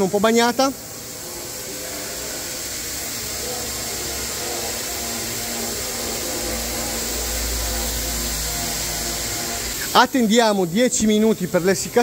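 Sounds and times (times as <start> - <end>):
paint spray hissing: 0.0 - 12.0.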